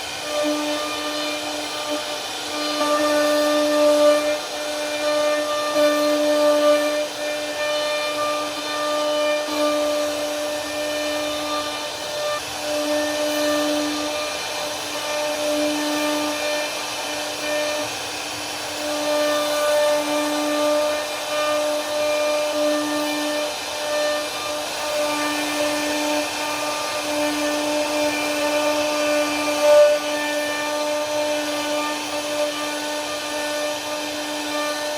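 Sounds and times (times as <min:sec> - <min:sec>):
constant hiss: 0:00.0 - 0:34.9
router spindle whining: 0:00.0 - 0:34.9.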